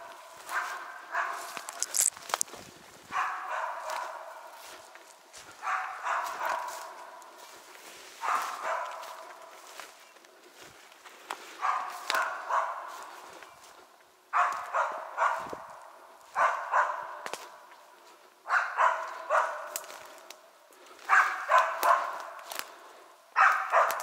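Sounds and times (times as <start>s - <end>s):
hunting dog barking: 0.0s - 2.1s, 3.0s - 10.0s, 11.4s - 24.0s.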